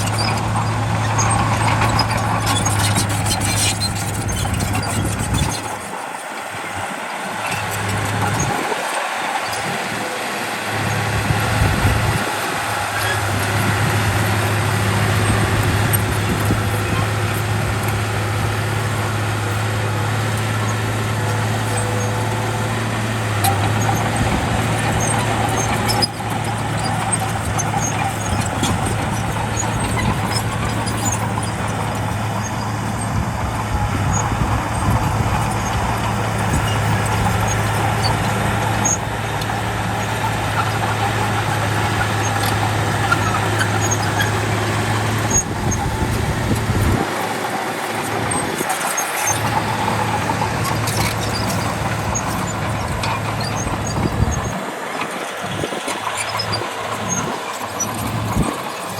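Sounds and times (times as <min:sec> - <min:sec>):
dense machine noise: 0:00.0 - 0:58.9
low engine drone: 0:00.0 - 0:58.9.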